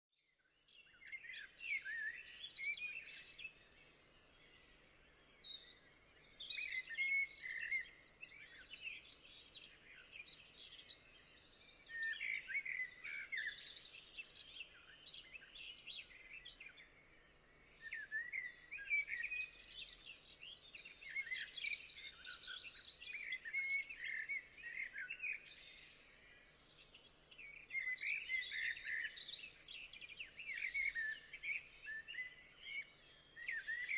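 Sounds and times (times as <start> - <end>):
songbirds chirping: 0.2 - 33.9.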